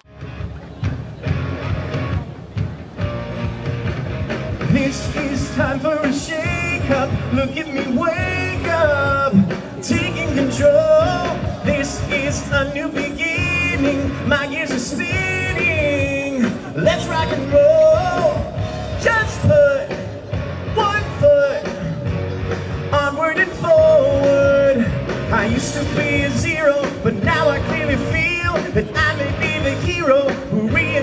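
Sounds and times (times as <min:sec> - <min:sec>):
upbeat amplified band: 0:00.0 - 0:31.0
man singing into a microphone: 0:04.6 - 0:22.1, 0:22.8 - 0:31.0.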